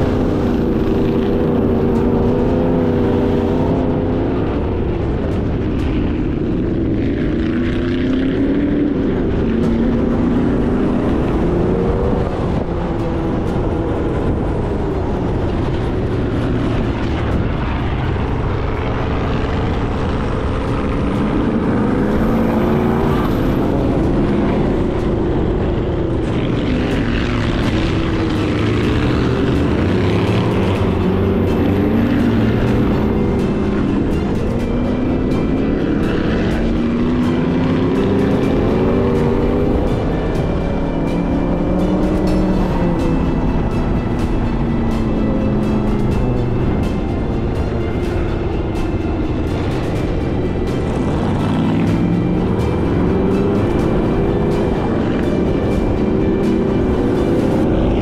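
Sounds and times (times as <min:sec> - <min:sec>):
constant rush of noise: 0:00.0 - 0:58.0
engine revving: 0:00.0 - 0:58.0.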